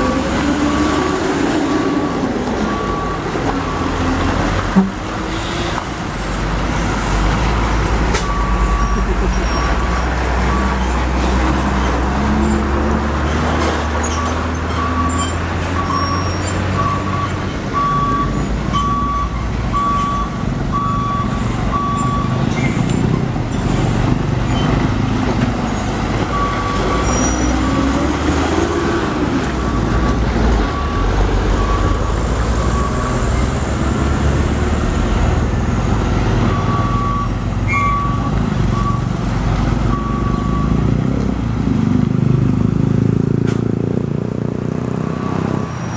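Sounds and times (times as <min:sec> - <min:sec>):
heavy truck engines running: 0:00.0 - 0:45.9
road noise: 0:00.0 - 0:45.9.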